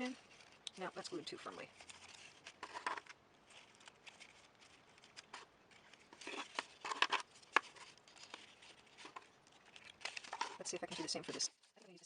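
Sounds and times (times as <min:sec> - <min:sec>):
paper rustling and scraping: 0:00.0 - 0:12.0.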